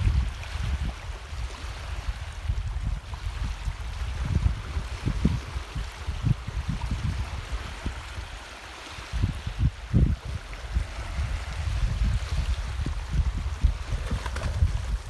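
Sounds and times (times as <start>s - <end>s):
wind buffeting microphone: 0.0s - 8.4s, 9.0s - 15.0s.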